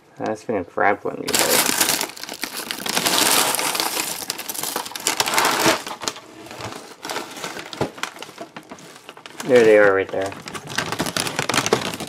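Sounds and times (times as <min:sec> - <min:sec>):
dry flakes shifting: 0:01.3 - 0:12.0
plastic bag crinkling: 0:01.3 - 0:12.0.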